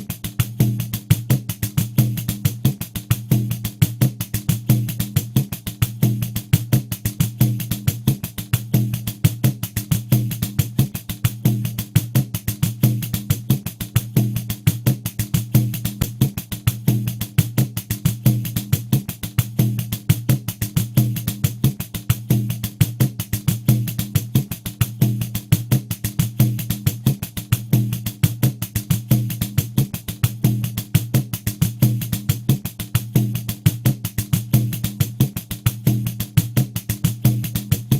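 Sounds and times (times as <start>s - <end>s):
pandeiro groove: 0.0s - 37.9s.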